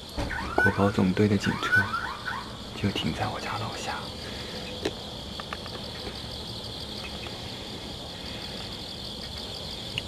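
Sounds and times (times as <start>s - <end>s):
insect chorus: 0.0s - 10.0s
low steady hum: 0.0s - 10.0s.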